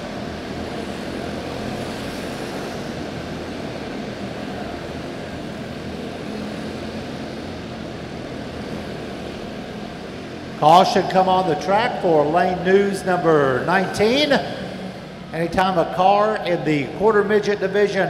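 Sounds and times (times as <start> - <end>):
small race car engines droning: 0.0 - 18.0.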